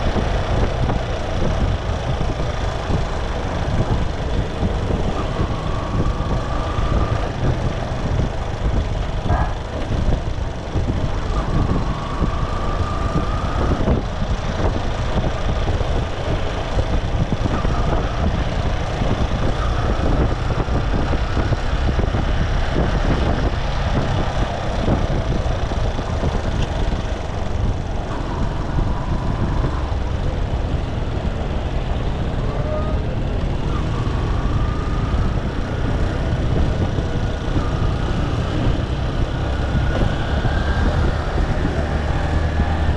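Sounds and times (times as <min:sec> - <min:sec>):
motorcycle engine running: 0:00.0 - 0:42.9
road noise: 0:00.0 - 0:42.9.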